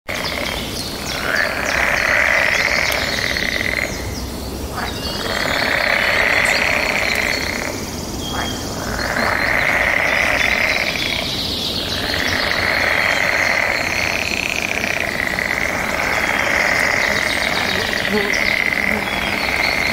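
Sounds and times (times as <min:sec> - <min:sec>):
birds chirping: 0:00.1 - 0:19.9
loud animal chorus: 0:00.1 - 0:19.9.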